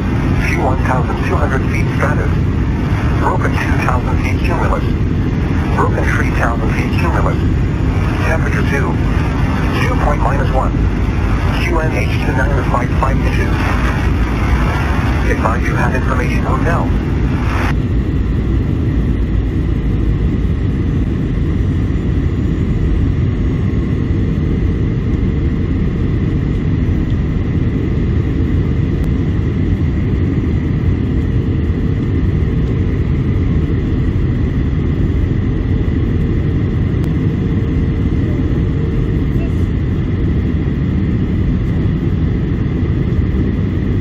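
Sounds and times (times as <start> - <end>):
aircraft engine and airflow roar: 0.0 - 44.0.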